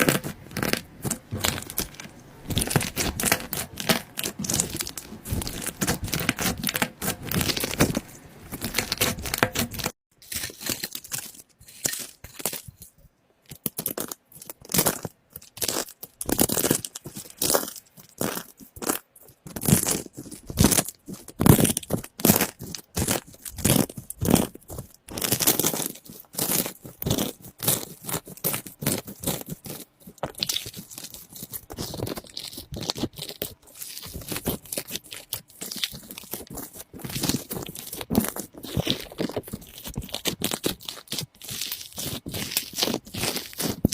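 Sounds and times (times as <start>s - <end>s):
slime crackling and popping: 0.0s - 12.8s, 13.5s - 43.9s.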